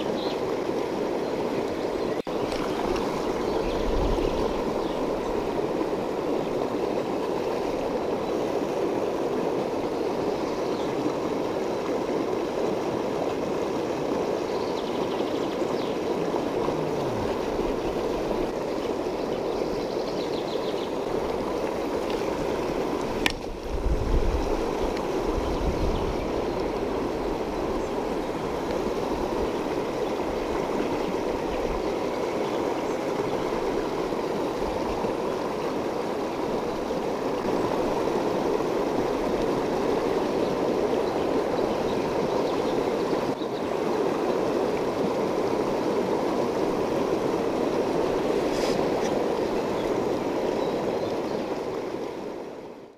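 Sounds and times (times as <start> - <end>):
river rushing over stones: 0.0 - 52.9.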